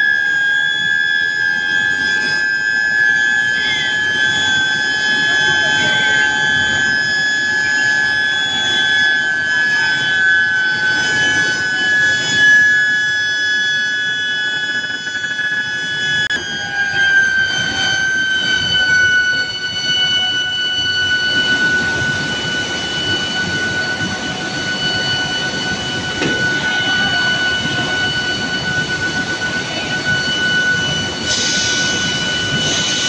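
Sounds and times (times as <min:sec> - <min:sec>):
induction heater whining: 0:00.0 - 0:33.0.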